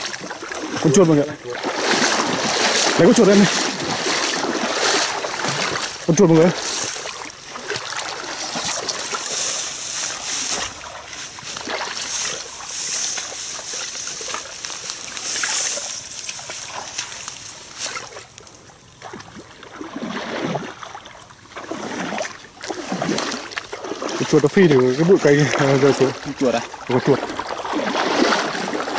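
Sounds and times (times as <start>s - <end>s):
muddy water splashing: 0.0s - 28.9s.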